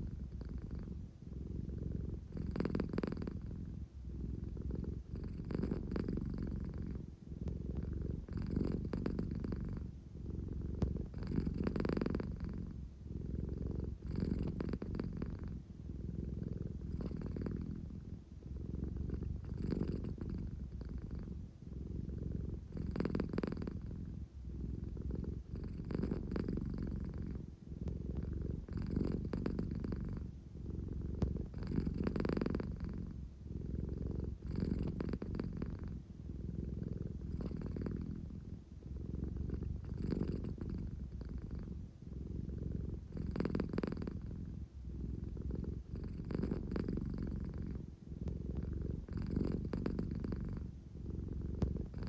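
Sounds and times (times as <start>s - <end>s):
cat purring: 0.0s - 52.0s.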